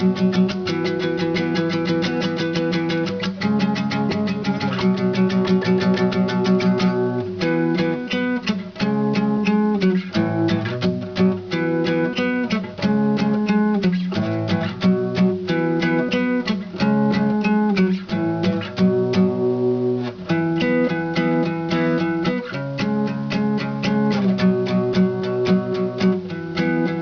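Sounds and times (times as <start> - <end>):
strummed string instrument chords: 0.0 - 27.0.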